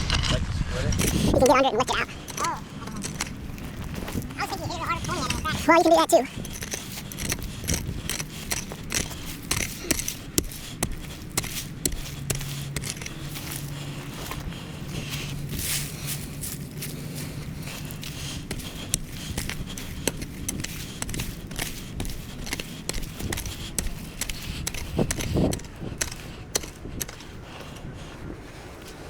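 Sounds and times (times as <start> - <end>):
gravel crunching by hand: 0.8 - 29.0.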